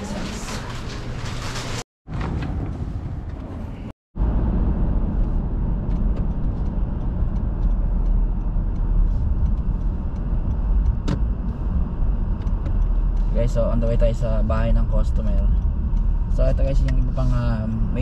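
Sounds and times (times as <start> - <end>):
road noise: 0.0 - 18.0
car engine rumble: 2.1 - 18.0.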